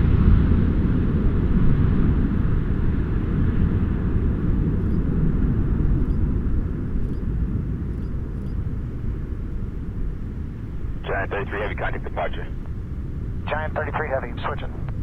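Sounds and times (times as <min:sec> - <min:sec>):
jet engines deep rumble: 0:00.0 - 0:15.0.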